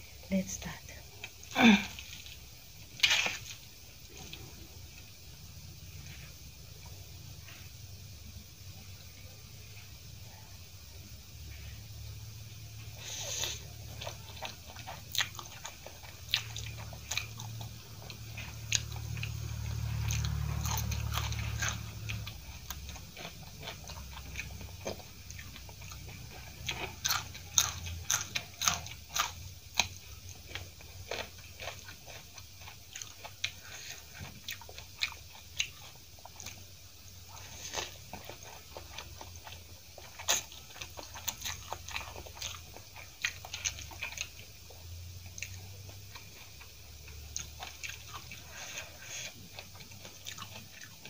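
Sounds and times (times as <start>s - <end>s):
wet chewing of noodles: 1.1s - 5.3s, 12.8s - 51.0s
crunching chilli: 1.1s - 7.8s, 8.5s - 51.0s.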